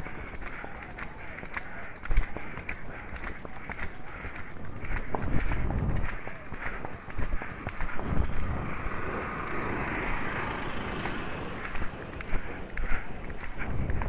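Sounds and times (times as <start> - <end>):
horse hoofbeats galloping: 0.0 - 14.0
wind on microphone: 2.2 - 14.0.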